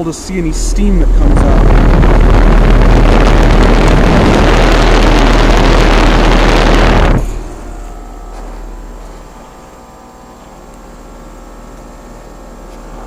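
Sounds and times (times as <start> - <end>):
fan air rushing on microphone: 0.0 - 11.2
heat pump unit humming: 0.0 - 13.0.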